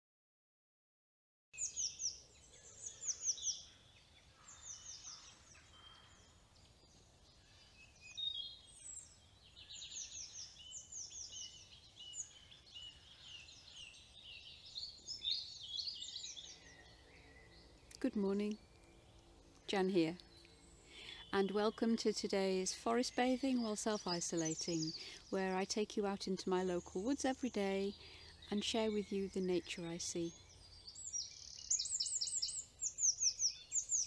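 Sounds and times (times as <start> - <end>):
woodland birds singing: 1.6 - 34.0.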